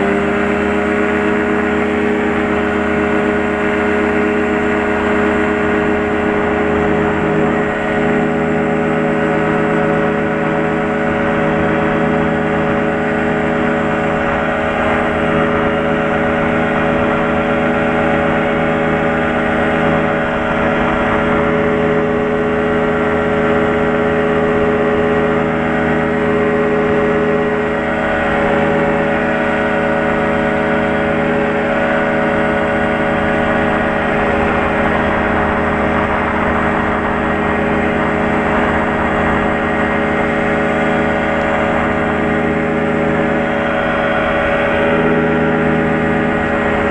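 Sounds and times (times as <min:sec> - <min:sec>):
small plane engine droning: 0:00.0 - 0:46.9.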